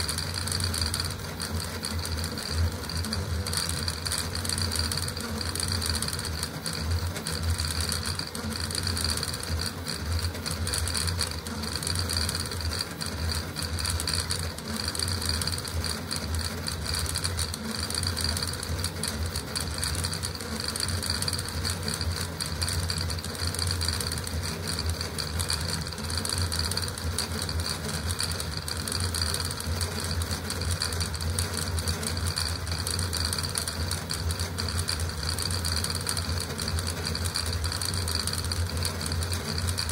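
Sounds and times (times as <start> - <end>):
printer motors chattering and buzzing: 0.0 - 39.9.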